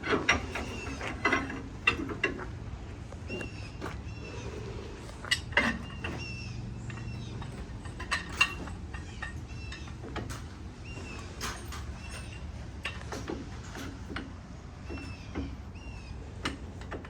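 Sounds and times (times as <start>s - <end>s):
hand tools tapping metal: 0.0s - 15.6s, 16.4s - 17.0s
low steady rumble: 0.0s - 17.0s.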